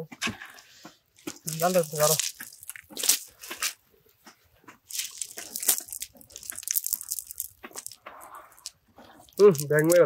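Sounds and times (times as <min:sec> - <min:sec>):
wet net rustling and crackling: 0:00.4 - 0:10.0.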